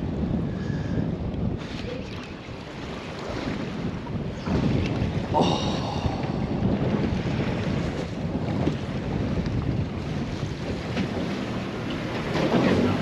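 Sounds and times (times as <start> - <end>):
water rushing around boat: 0.0 - 13.0
wind buffeting microphone: 0.0 - 13.0.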